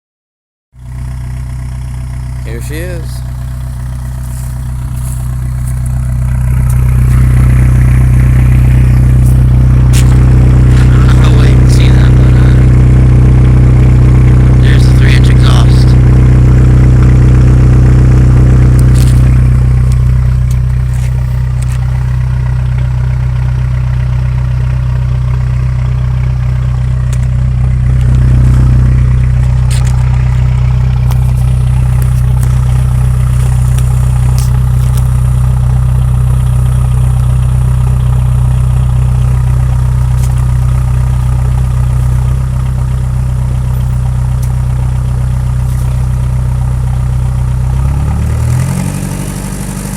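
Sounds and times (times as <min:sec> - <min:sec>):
diesel car engine idling: 0:00.8 - 0:49.9.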